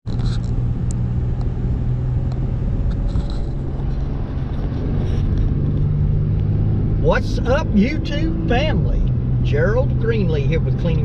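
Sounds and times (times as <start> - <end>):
road noise: 0.0 - 11.0
vehicle engine drone: 0.0 - 11.0.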